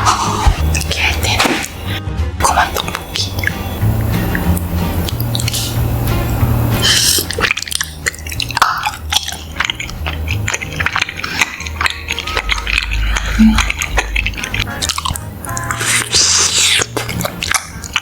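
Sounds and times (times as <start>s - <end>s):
wet chewing and smacking: 0.0s - 18.0s
crunching bites: 0.5s - 3.6s, 4.2s - 5.8s, 6.8s - 18.0s.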